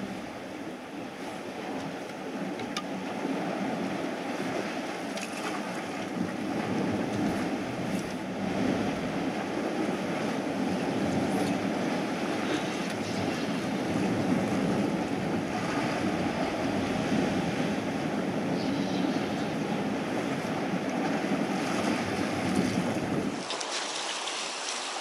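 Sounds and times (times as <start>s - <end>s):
wind buffeting microphone: 0.0s - 23.5s
surf on rocky shore: 0.0s - 25.0s.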